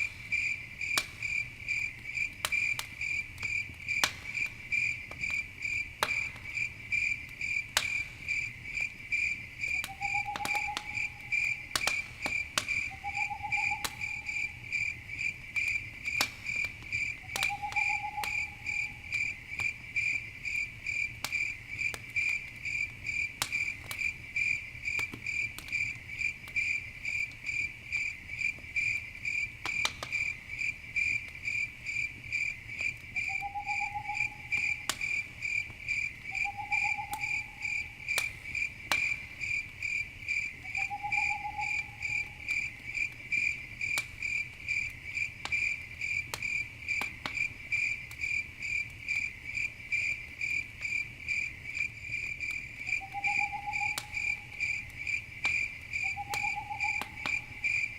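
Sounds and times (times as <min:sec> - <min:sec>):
campfire popping and crackling: 0:00.0 - 0:57.9
crickets chirping: 0:00.0 - 0:57.9.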